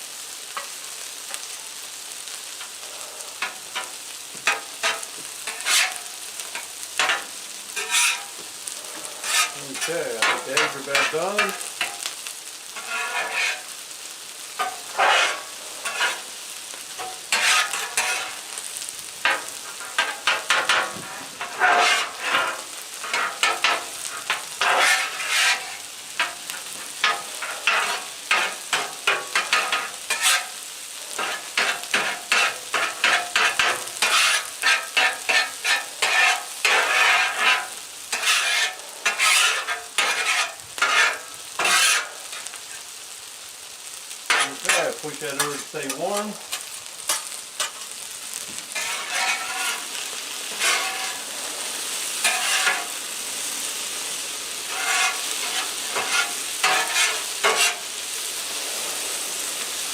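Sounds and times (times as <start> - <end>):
eggs sizzling: 0.0 - 59.9
metal spatula scraping griddle: 2.6 - 59.1.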